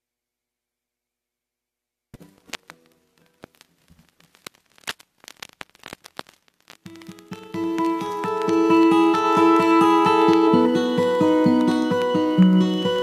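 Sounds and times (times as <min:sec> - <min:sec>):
vinyl clicks and pops: 0:02.2 - 0:13.0
vinyl surface noise: 0:02.2 - 0:13.0.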